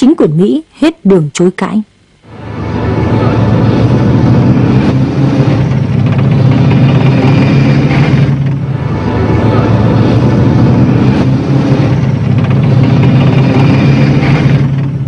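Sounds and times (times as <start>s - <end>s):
helicopter engine and rotors: 2.3s - 15.0s.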